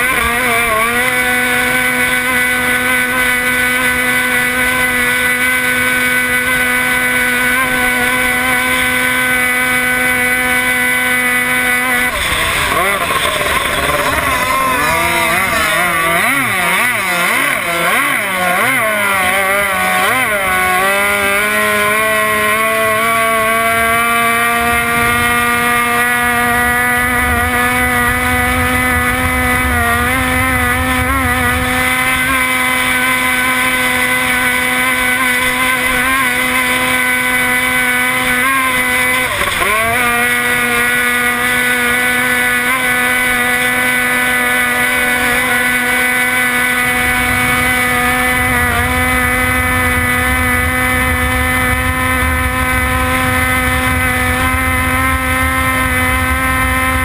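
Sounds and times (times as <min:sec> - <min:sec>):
outboard engine racing: 0:00.0 - 0:57.0.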